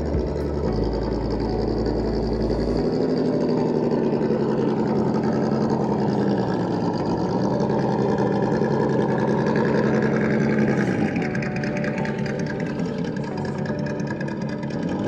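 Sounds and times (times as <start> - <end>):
electric motor and drivetrain whining: 0.0 - 15.0.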